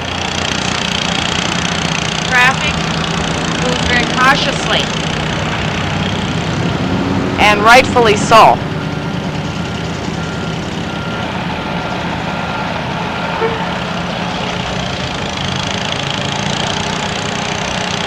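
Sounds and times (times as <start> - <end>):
truck and car engines: 0.0 - 18.0.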